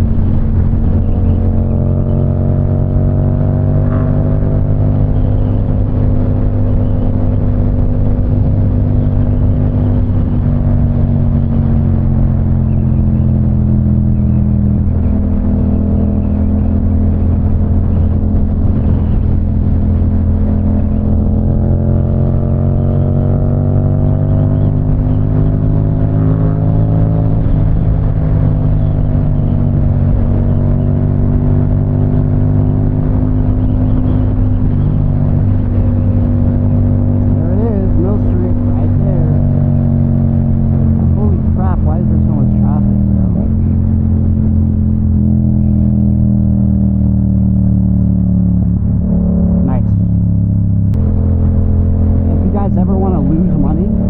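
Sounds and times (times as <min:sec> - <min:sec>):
motorcycle engine running at speed: 0:00.0 - 0:54.0.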